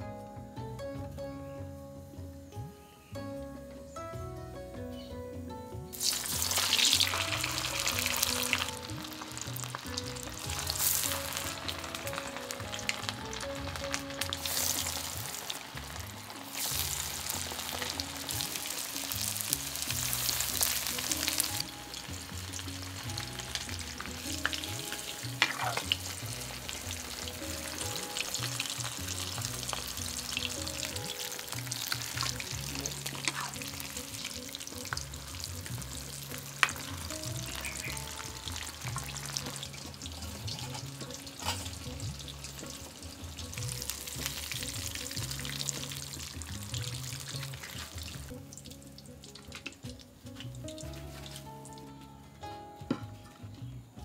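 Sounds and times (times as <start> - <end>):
fish sizzling in hot oil: 5.9 - 51.9.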